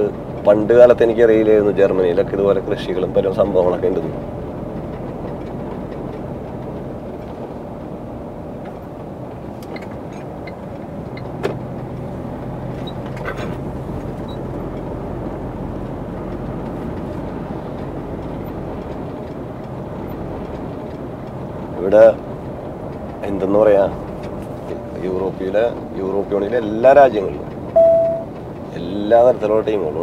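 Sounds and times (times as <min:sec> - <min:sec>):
lorry engine and road hum: 0:00.0 - 0:30.0.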